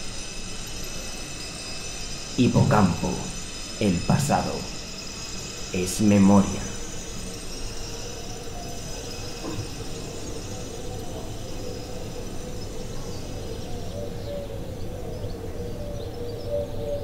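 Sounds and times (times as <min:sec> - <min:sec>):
droning ambient soundscape: 0:00.0 - 0:17.0.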